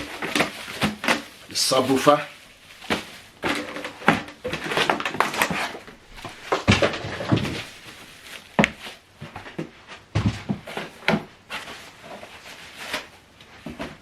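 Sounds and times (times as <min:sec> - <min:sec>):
cardboard packaging rustling: 0:00.0 - 0:14.0.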